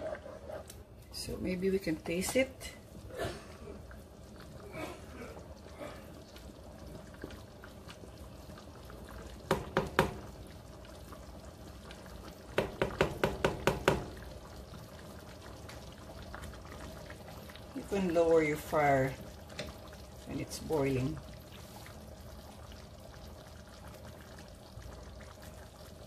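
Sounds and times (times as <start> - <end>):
sauce bubbling in a pan: 0.0 - 26.0.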